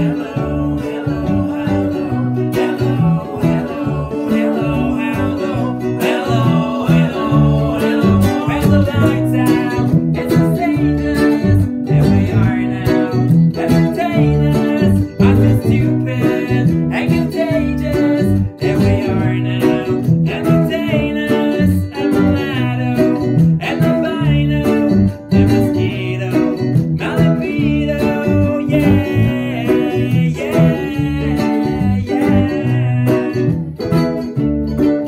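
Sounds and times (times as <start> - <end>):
ukulele strumming chords: 0.0 - 35.0.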